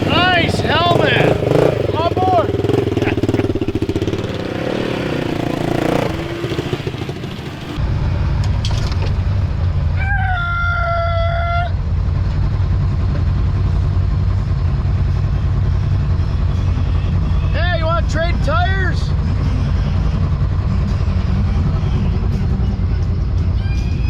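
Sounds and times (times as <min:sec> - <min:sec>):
off-road vehicle engine rumbling: 0:00.0 - 0:24.0.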